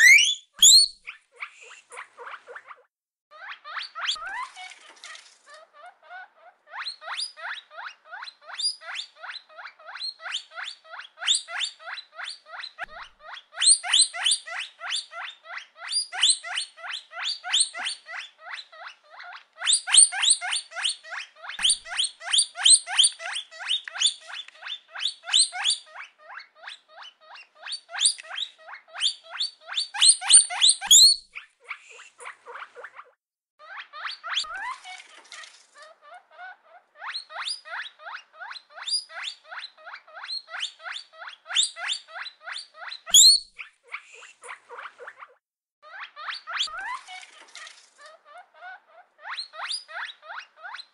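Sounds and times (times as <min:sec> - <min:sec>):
guinea pig wheeking: 0:00.0 - 0:50.9.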